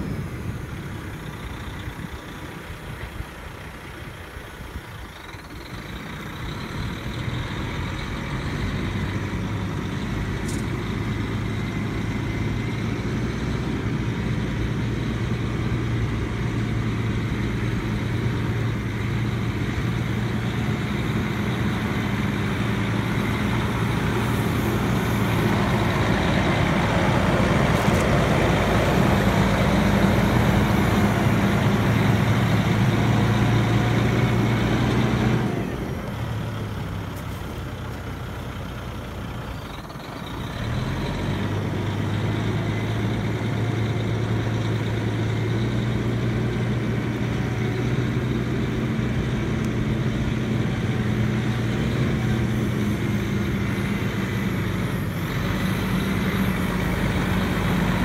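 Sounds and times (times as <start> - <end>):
tow truck diesel engine: 0.0 - 58.0.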